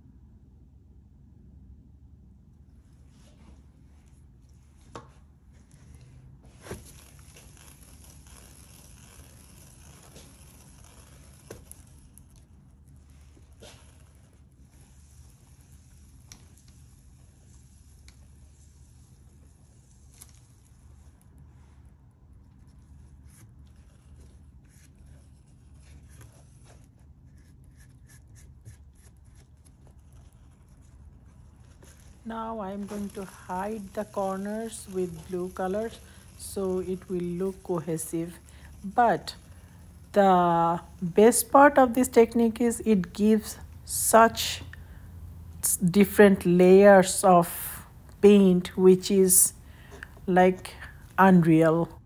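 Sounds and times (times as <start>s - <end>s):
low steady hum: 0.0s - 52.0s
faint rubbing and ticking: 5.6s - 21.8s, 22.5s - 51.3s.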